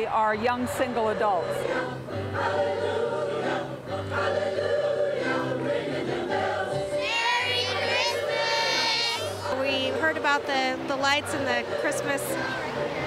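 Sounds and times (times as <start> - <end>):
choir singing: 0.7 - 13.0.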